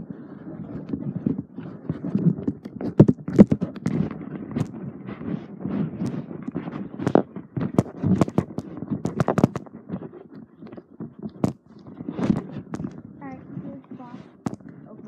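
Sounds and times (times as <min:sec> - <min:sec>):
scraping and rustling: 0:00.0 - 0:15.0.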